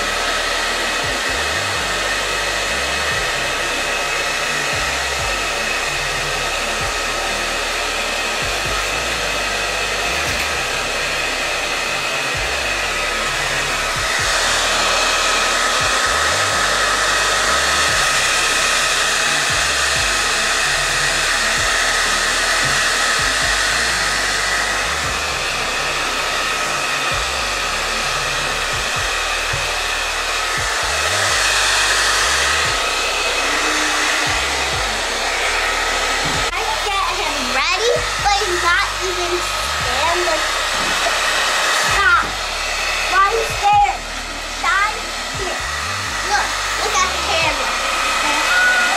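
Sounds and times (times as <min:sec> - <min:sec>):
hair dryer blowing: 0:00.0 - 0:48.9.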